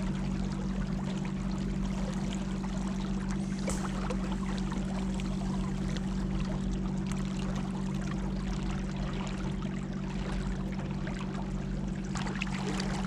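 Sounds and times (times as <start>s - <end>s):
boat motor humming: 0.0s - 13.0s
water splashing along hull: 0.0s - 13.0s.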